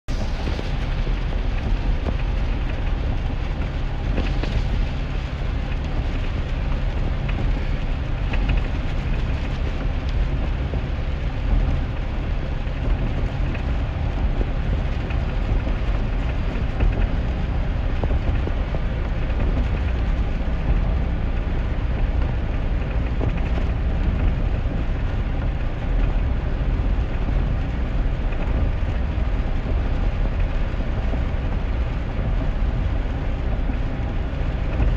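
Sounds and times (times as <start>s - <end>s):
engine and tyre rumble: 0.0s - 34.9s
rain hiss on wet road: 0.1s - 34.9s.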